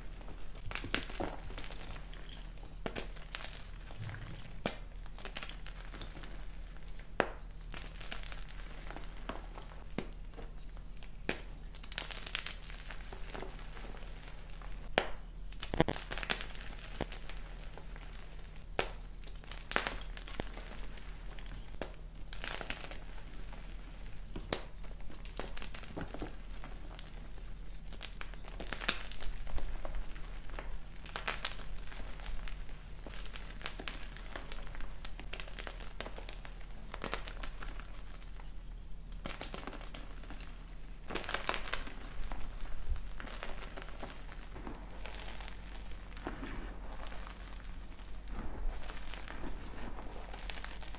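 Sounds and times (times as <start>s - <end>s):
powdery crumbling: 0.0s - 50.9s.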